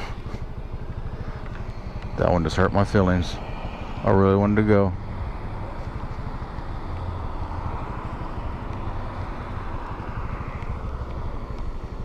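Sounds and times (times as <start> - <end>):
small engine running: 0.0 - 12.0
wind and road noise: 0.0 - 12.0.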